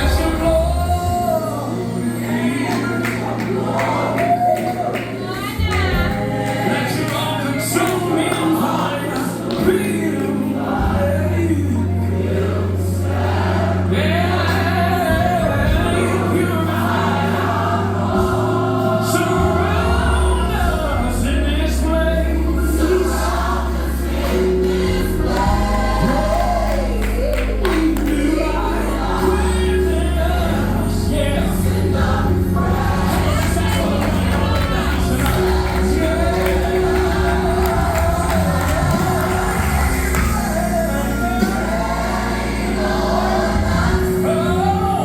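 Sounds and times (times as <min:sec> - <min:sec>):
choir singing over a band: 0:00.0 - 0:45.0.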